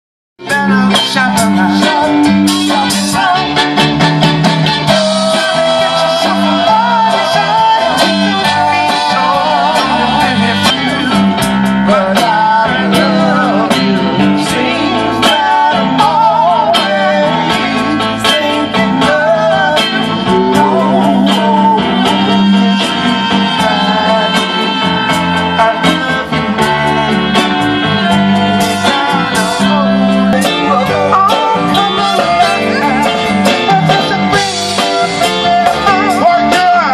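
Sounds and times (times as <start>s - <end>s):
lead vocal singing: 0.4s - 36.9s
soul song played by band: 0.4s - 36.9s.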